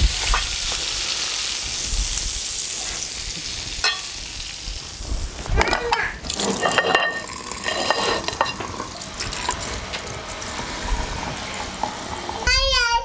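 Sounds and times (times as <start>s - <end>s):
hot oil sizzling and crackling: 0.0s - 12.9s.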